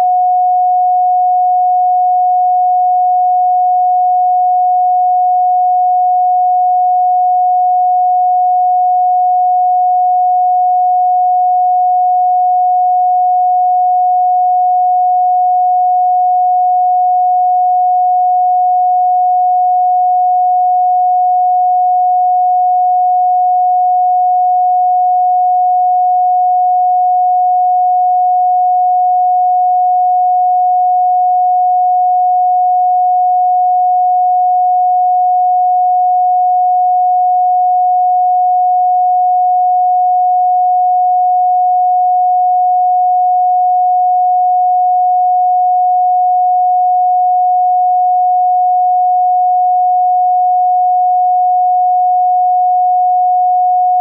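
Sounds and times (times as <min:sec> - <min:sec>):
steady sine tone: 0:00.0 - 0:54.0.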